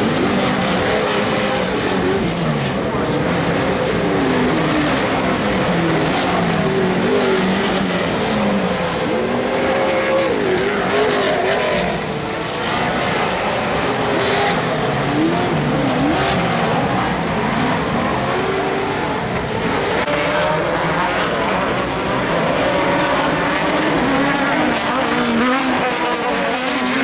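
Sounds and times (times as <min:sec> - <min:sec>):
race vehicle engines revving: 0:00.0 - 0:27.0.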